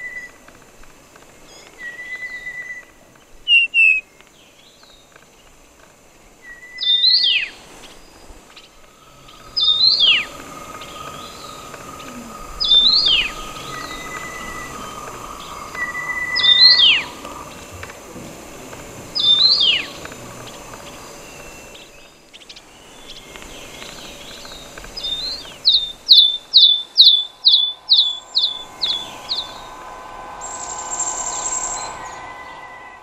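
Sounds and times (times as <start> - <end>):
bird calling: 6.4 - 33.0.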